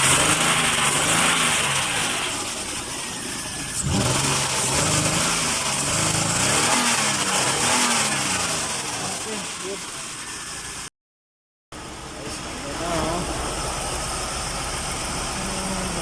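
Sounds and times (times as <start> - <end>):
car engine revving: 0.0 - 10.9, 11.8 - 16.0.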